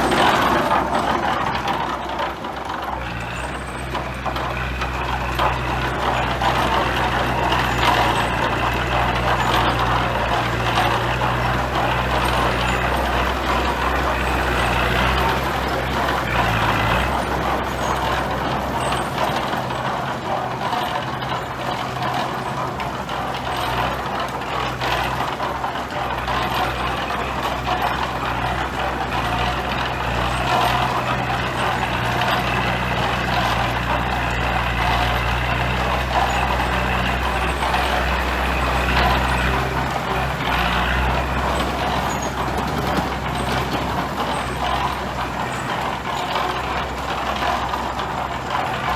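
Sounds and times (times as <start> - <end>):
diesel machinery engine drone: 0.0 - 48.9.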